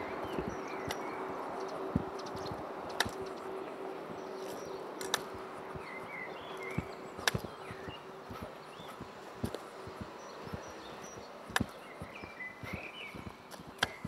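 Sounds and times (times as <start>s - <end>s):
bird chirps: 0.0s - 14.0s
steady rushing noise: 0.0s - 14.0s
sharp clicks: 0.2s - 14.0s.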